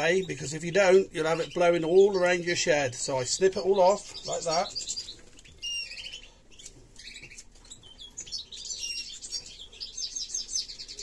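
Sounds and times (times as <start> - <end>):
finches chirping and twittering: 0.0 - 11.0.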